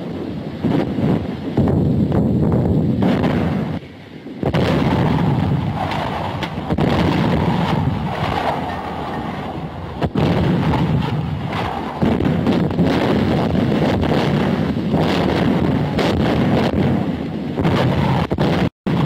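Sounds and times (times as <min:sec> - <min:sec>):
artillery guns firing: 0:03.0 - 0:03.8, 0:04.4 - 0:19.0
shells bursting: 0:03.0 - 0:03.8, 0:04.4 - 0:19.0.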